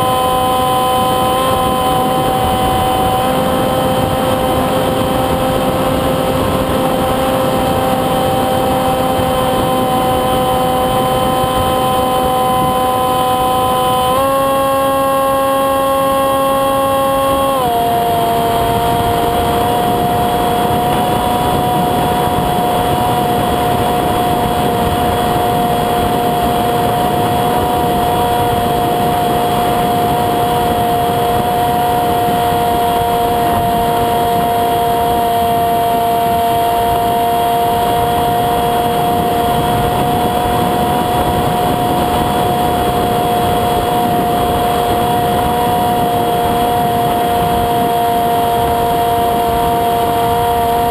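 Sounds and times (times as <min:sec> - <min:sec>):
electric motor and propeller whine: 0:00.0 - 0:50.9.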